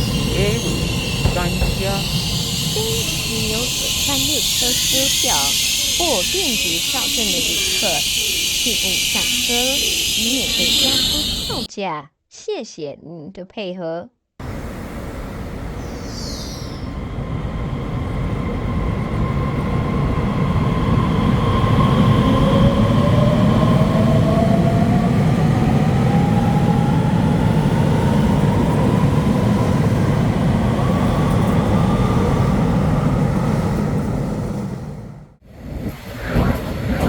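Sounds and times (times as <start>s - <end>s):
traction motor whine rising: 0.0s - 11.7s, 14.4s - 35.4s
train rumble: 0.0s - 11.7s, 14.4s - 37.0s.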